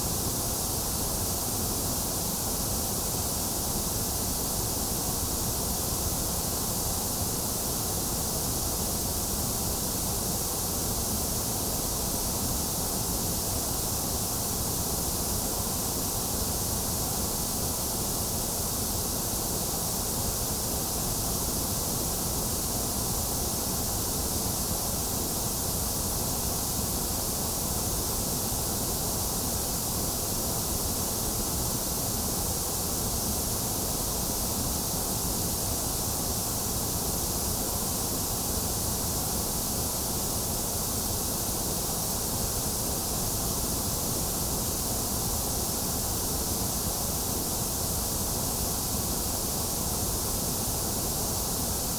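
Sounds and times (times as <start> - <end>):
white noise hiss: 0.0 - 51.9.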